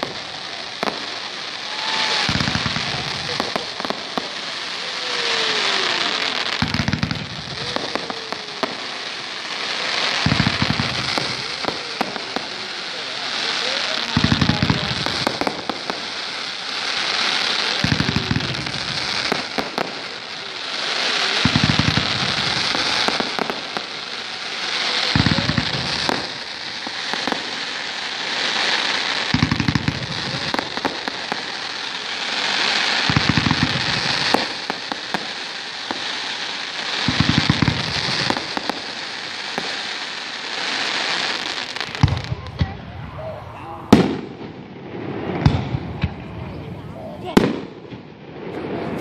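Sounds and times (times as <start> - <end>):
fireworks crackling: 0.0 - 49.0.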